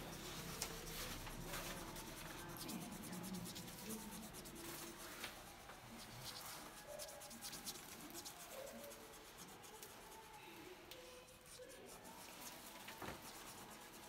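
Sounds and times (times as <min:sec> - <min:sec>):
crayon scratching on paper: 0:00.0 - 0:14.0.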